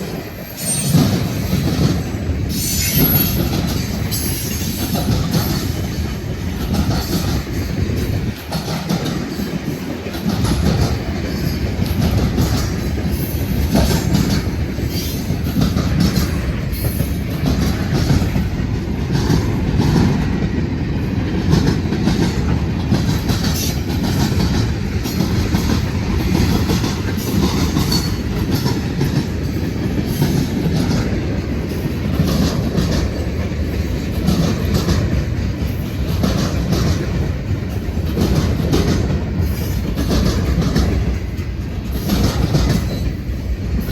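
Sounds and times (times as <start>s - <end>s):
freight train rumbling past: 0.0s - 43.9s
wheels clicking over rail joints: 0.0s - 43.9s.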